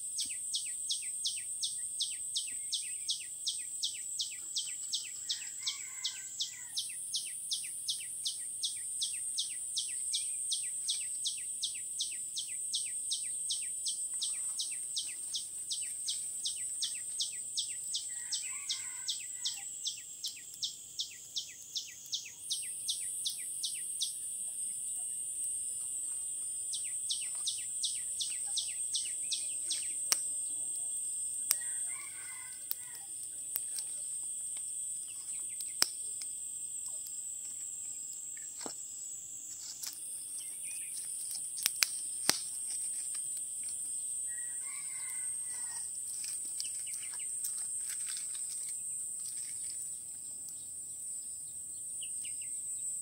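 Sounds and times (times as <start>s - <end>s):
insect drone: 0.0s - 53.0s
rapid insect chirping: 0.0s - 53.0s.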